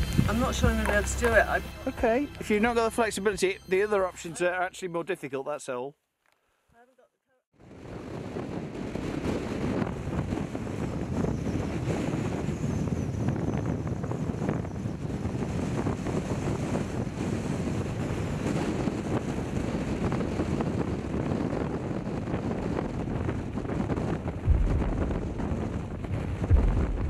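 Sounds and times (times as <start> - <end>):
wind blowing across microphone: 0.0 - 3.5, 7.6 - 27.0.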